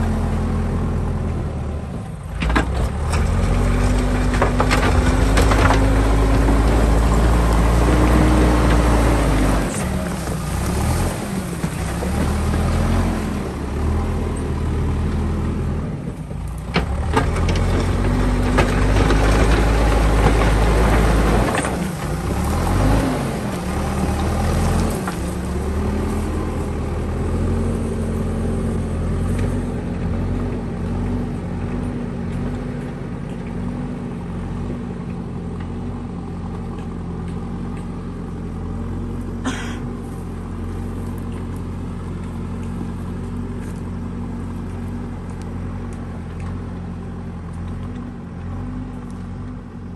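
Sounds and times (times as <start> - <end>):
diesel engine revving: 0.0 - 49.9.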